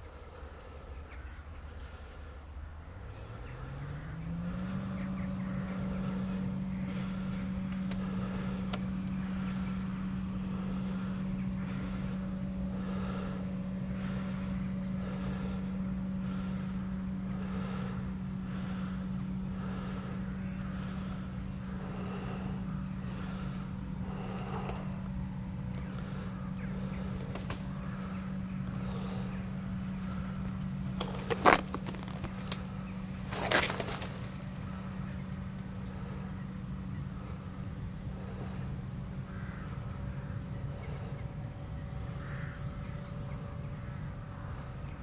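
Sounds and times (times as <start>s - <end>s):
diesel engine revving: 1.7s - 42.4s.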